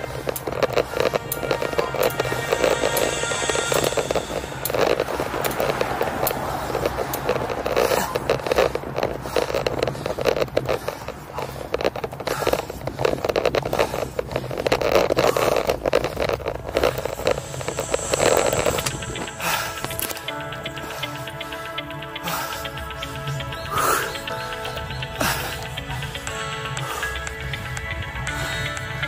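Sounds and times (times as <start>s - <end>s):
bicycle scraping and crackling: 0.0s - 29.0s.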